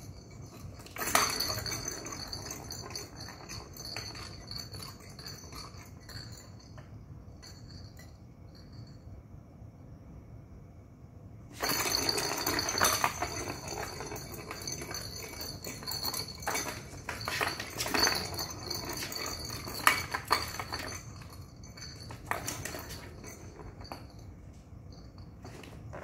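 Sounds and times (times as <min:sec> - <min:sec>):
balls rattling around plastic track: 0:00.0 - 0:08.1, 0:11.5 - 0:26.0.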